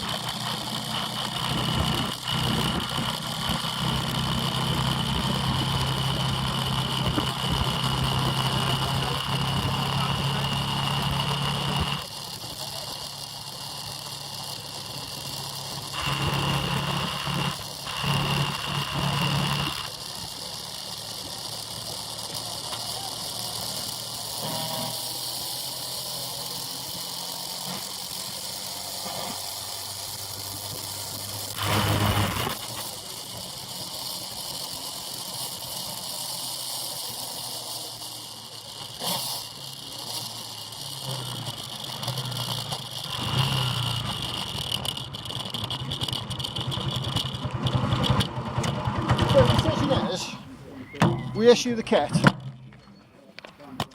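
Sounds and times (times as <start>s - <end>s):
motorbike passing: 0.0s - 36.4s, 37.8s - 52.8s.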